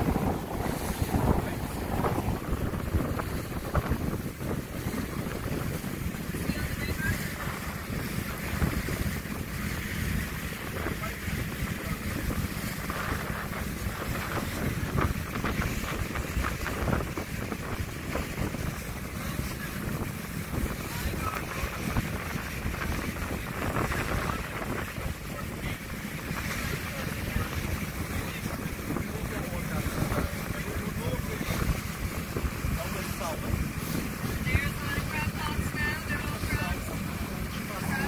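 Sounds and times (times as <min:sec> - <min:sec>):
water splashing along hull: 0:00.0 - 0:38.0
wind buffeting microphone: 0:00.0 - 0:38.0.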